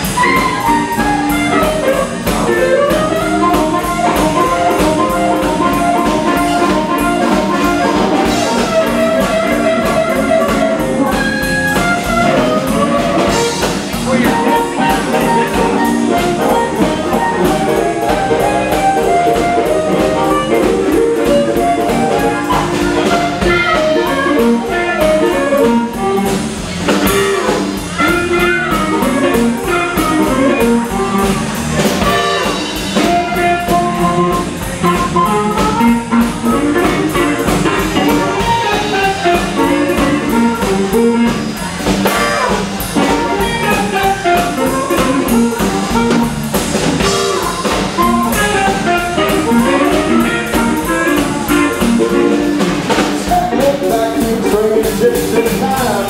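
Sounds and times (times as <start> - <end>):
amplified harmonica: 0.0 - 54.8
bass guitar: 0.0 - 56.0
drum kit: 0.0 - 56.0
electric guitar: 0.0 - 56.0.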